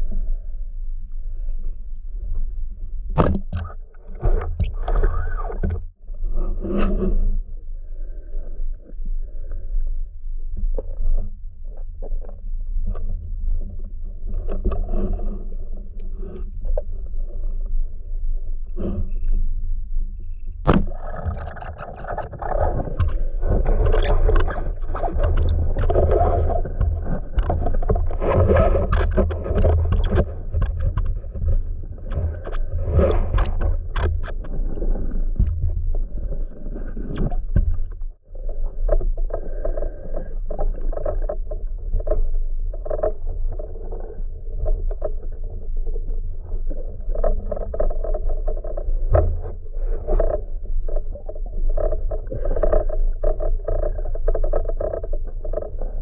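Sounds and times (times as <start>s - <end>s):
underwater rumble and swishing: 0.0s - 56.0s.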